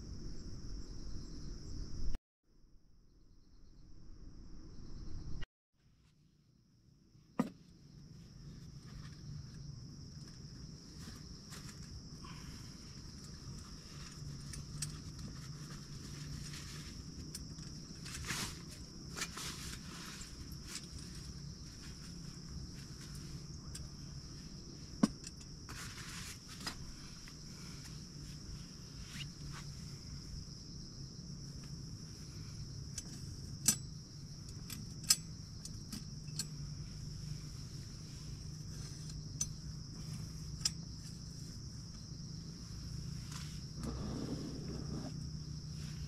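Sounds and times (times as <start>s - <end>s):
insects chirring: 0.0s - 2.2s, 3.1s - 5.4s, 6.5s - 46.0s.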